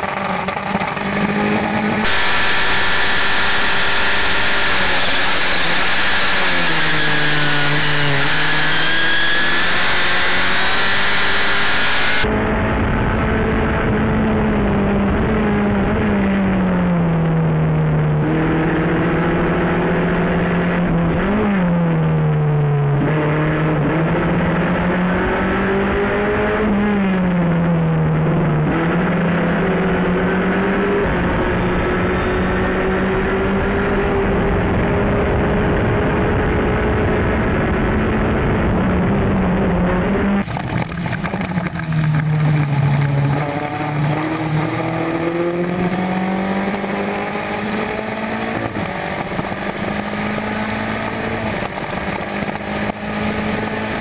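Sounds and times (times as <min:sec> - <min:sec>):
race car engine revving: 0:00.0 - 0:54.0
uneven race car engine: 0:00.0 - 0:54.0.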